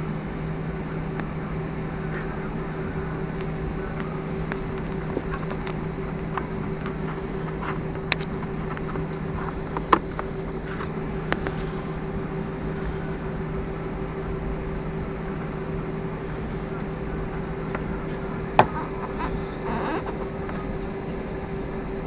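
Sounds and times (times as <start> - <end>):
airliner engine hum: 0.0 - 22.0.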